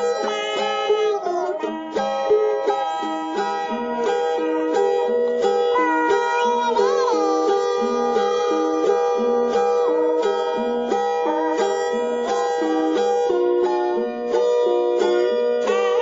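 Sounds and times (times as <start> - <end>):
held melody bending in pitch: 0.0 - 16.0
plucked string instrument music: 0.0 - 16.0.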